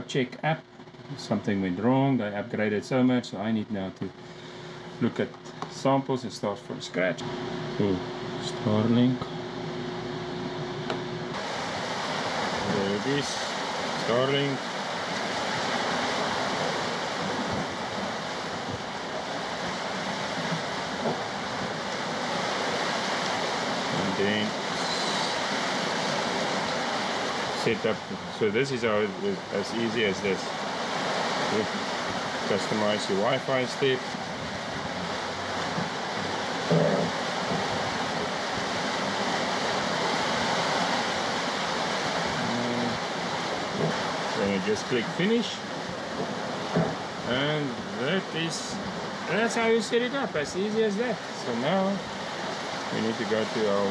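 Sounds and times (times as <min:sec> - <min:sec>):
sea waves rushing: 0:04.1 - 0:06.1, 0:06.9 - 0:53.9.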